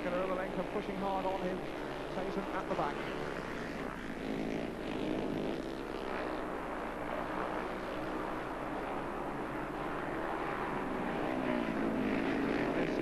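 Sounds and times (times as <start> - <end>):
motorcycles racing at high revs: 0.0 - 13.0.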